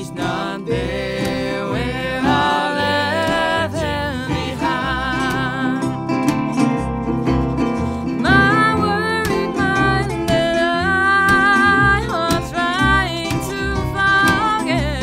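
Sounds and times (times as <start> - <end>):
woman singing: 0.0 - 6.2, 8.0 - 15.0
acoustic guitar: 0.0 - 15.0
lap steel guitar: 0.0 - 15.0
plucked upright double bass: 0.0 - 15.0.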